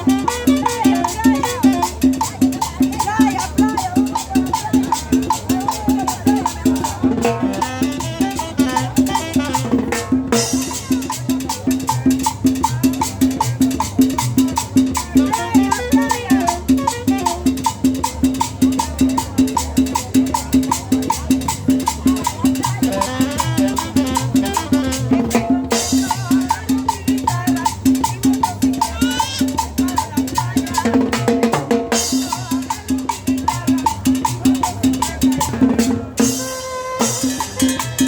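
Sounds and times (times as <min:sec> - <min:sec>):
cumbia music with percussion beat: 0:00.0 - 0:38.0.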